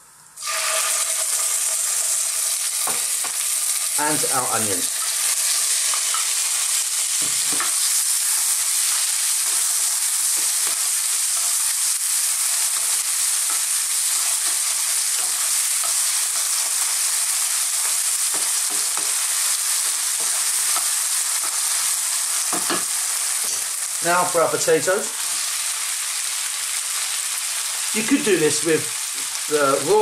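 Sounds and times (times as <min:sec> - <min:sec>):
onion sizzling in a pan: 0:00.4 - 0:30.0.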